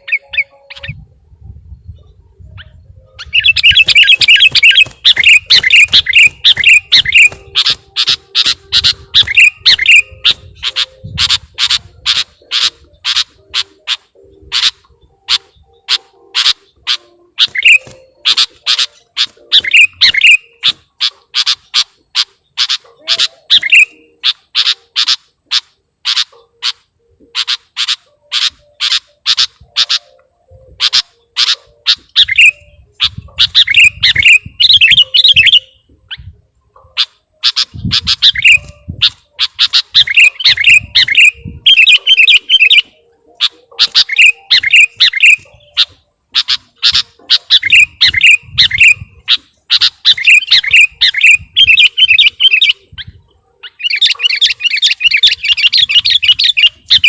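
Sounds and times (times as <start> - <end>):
bird singing chip notes: 0.0 - 57.0.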